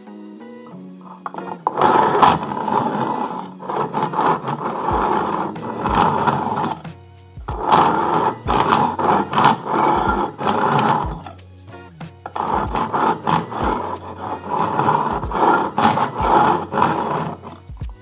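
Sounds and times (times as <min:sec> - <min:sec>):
knife rasping through sharpener: 0:01.0 - 0:07.0, 0:07.6 - 0:11.5, 0:12.2 - 0:17.8.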